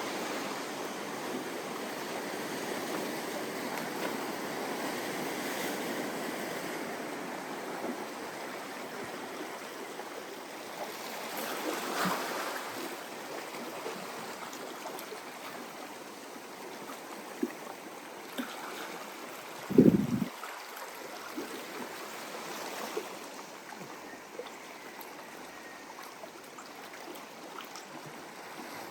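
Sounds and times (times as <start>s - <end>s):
ocean waves washing on beach: 0.0s - 28.9s.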